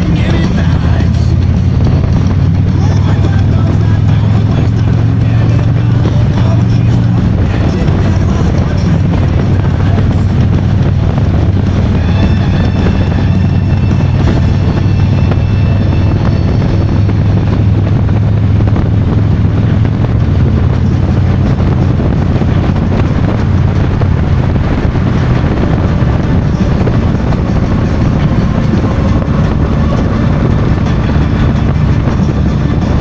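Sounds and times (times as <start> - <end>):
motorcycle engine cruising: 0.0 - 33.0
wind rushing over microphone: 0.0 - 33.0.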